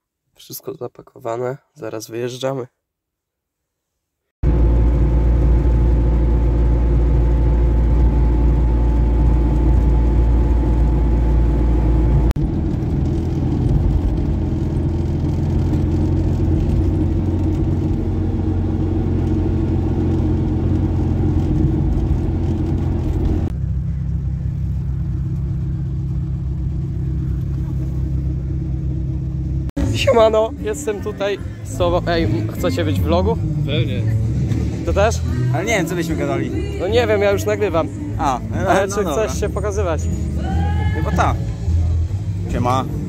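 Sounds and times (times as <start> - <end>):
car engine drone from inside: 4.4 - 43.0.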